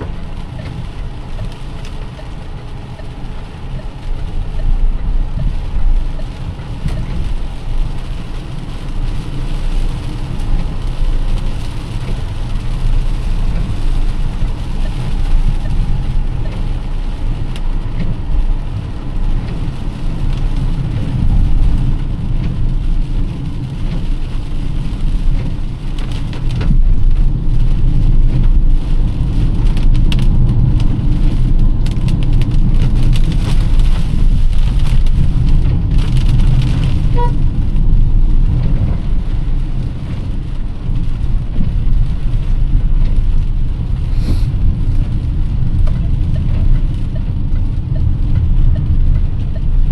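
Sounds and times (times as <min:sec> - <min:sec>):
car driving on wet road: 0:00.0 - 0:49.9
heavy rain on a car: 0:00.0 - 0:49.9.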